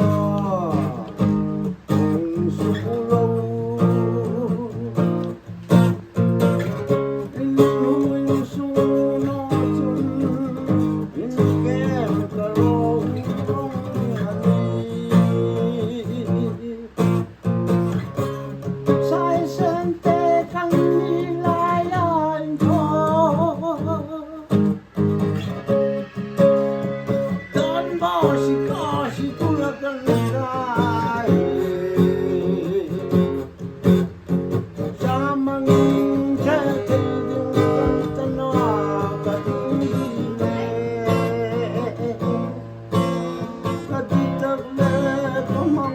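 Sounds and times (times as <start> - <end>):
person singing: 0.0 - 34.0, 34.7 - 45.9
strummed acoustic guitar: 0.0 - 45.9.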